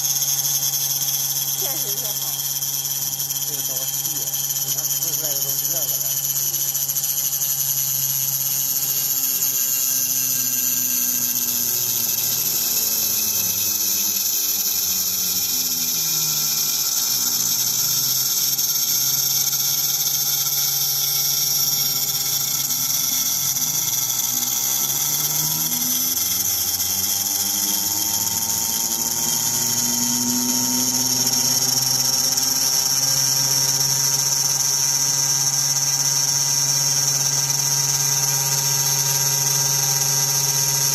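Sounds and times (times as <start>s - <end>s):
drive motors whining: 0.0s - 18.4s, 21.8s - 40.9s
spindle high-pitched whine: 0.0s - 40.9s.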